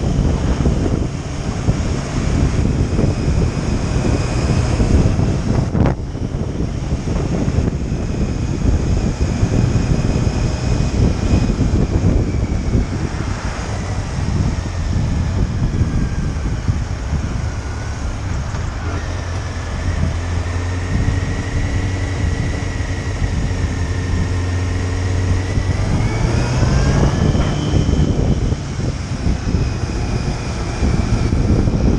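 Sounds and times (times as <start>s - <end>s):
motorcycle engine running: 0.0s - 31.9s
wind rushing over microphone: 0.0s - 31.9s.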